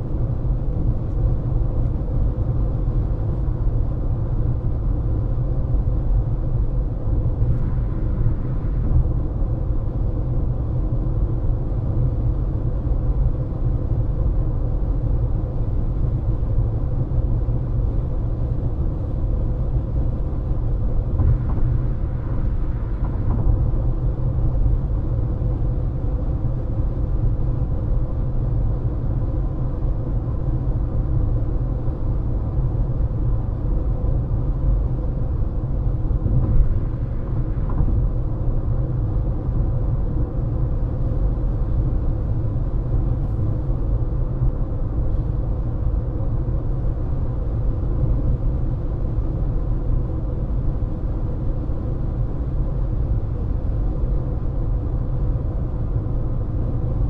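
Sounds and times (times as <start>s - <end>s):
car road and engine rumble: 0.0s - 57.0s
faint steady hum: 0.0s - 57.0s.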